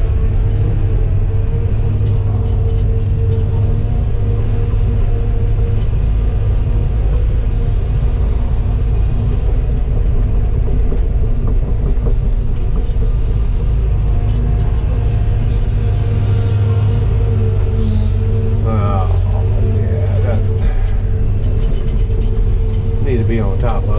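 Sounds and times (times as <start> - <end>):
light metallic clicks and clanks: 0.0 - 8.0, 8.6 - 23.9
diesel engine droning: 0.0 - 23.9.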